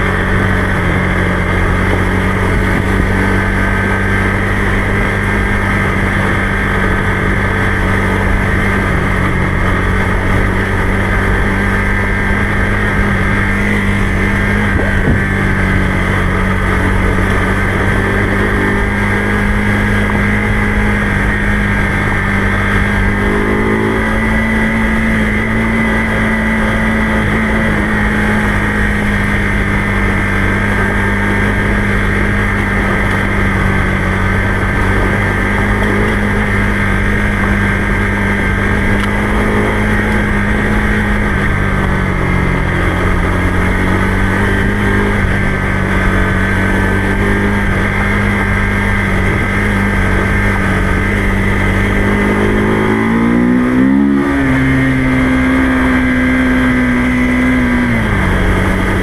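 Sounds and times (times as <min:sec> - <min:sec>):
motorcycle engine running: 0:00.0 - 0:59.0
road noise: 0:00.0 - 0:59.0
wind noise: 0:00.0 - 0:59.0.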